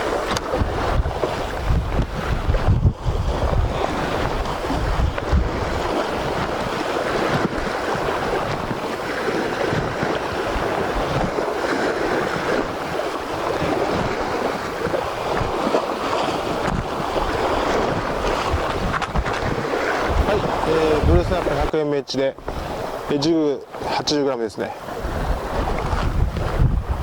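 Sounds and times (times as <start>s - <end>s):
wind buffeting microphone: 0.0s - 24.0s, 24.8s - 27.0s
sea surf washing: 0.0s - 27.0s.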